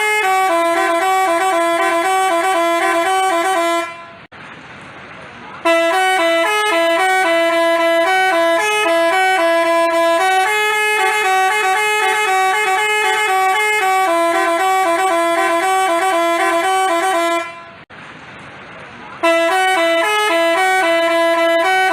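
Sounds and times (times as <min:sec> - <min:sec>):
musical bus horn playing tune: 0:00.0 - 0:04.3, 0:05.6 - 0:17.9, 0:19.2 - 0:21.9.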